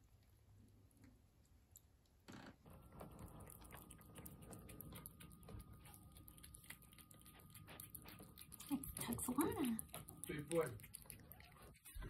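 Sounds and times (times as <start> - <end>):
cat chewing wet food: 0.0 - 12.0.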